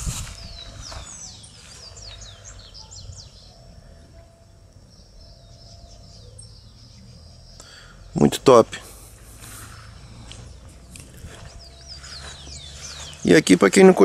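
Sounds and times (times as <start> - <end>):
songbird high chirps: 0.0 - 14.0.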